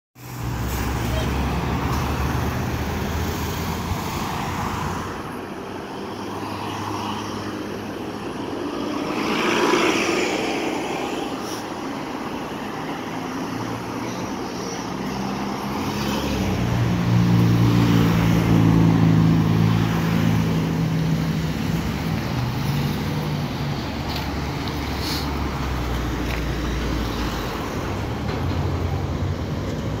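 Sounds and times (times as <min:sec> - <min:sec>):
road traffic passing: 0:00.2 - 0:30.0.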